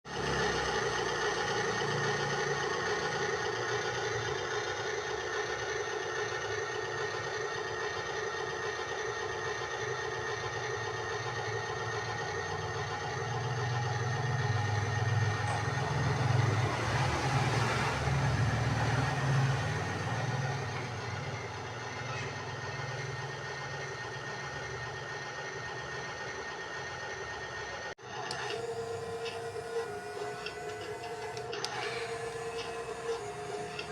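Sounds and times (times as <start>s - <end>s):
toy machine motor droning: 0.1s - 17.6s, 18.3s - 33.9s.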